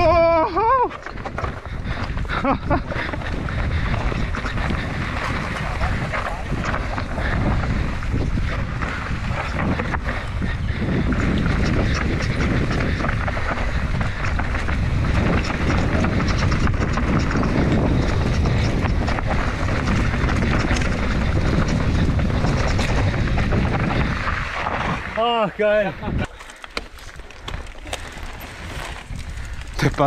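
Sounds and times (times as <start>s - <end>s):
bike rattles and knocks: 0.0s - 25.4s, 26.0s - 30.0s
knobby tyres rushing on dirt: 0.0s - 30.0s
wind buffeting microphone: 0.0s - 30.0s.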